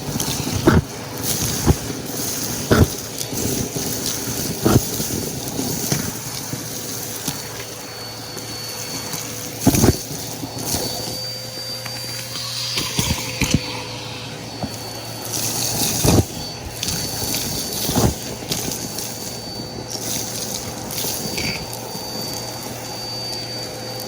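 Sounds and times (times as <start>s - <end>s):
upright vacuum cleaner running: 0.0s - 24.0s.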